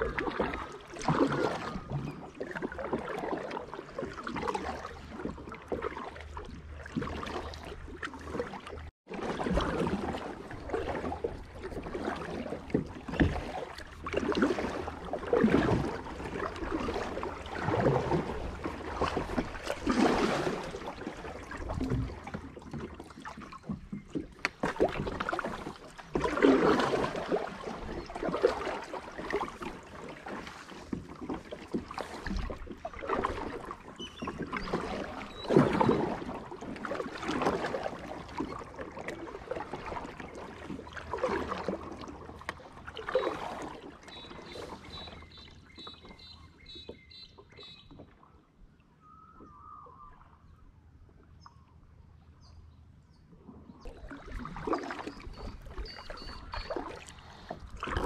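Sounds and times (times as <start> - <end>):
kayak paddle splashing: 0.0 - 50.4, 53.4 - 58.0.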